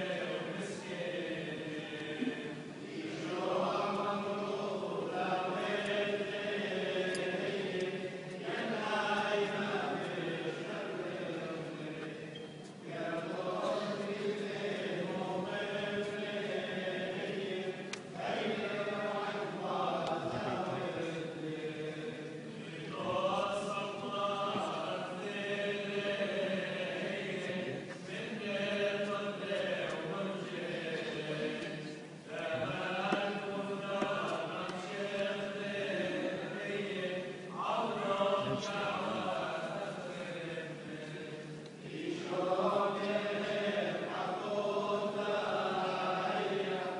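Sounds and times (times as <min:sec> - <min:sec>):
liturgical chant singing: 0:00.0 - 0:46.9.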